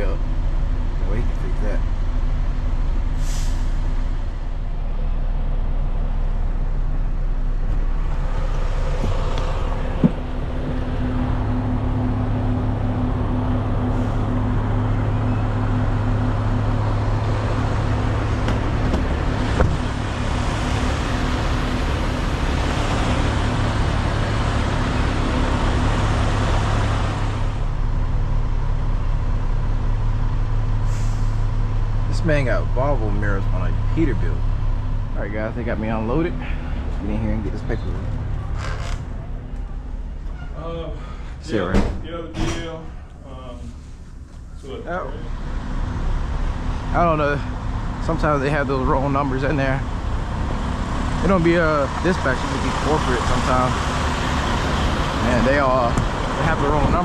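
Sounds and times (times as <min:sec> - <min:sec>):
diesel truck engine humming: 0:00.0 - 0:57.0.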